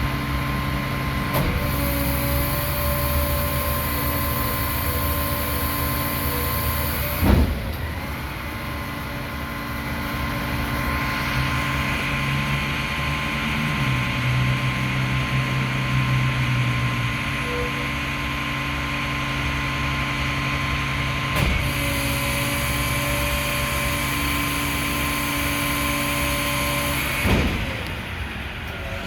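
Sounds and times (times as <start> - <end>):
garbage truck diesel engine: 0.0 - 29.0.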